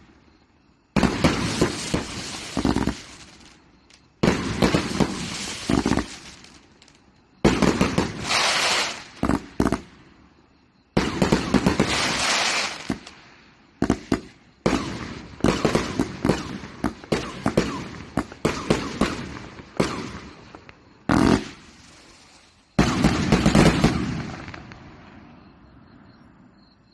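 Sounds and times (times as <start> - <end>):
firework bangs and crackling: 0.9 - 10.1, 11.0 - 25.3.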